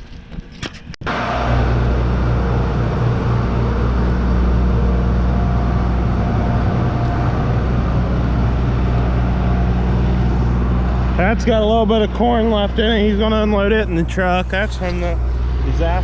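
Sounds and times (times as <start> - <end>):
large engine running steadily: 1.0 - 16.0.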